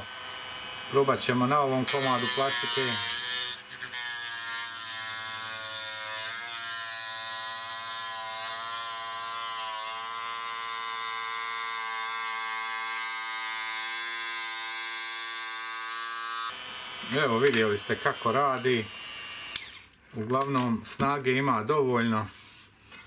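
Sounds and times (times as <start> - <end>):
mini drill whining cutting plastic: 0.0 - 20.0.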